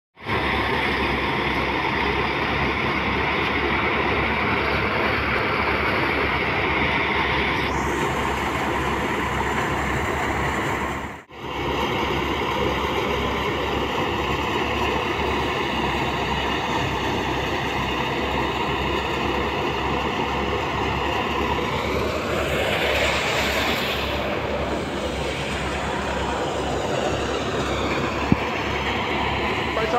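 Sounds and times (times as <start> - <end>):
thresher machine running: 0.2 - 29.9.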